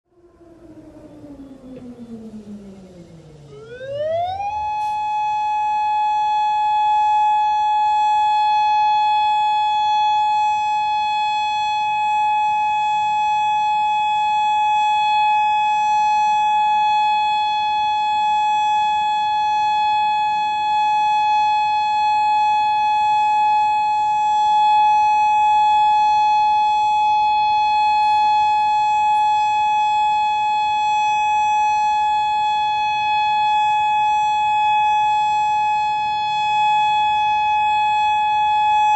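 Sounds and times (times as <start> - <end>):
electronic warning siren steady tone: 0.1 - 38.9.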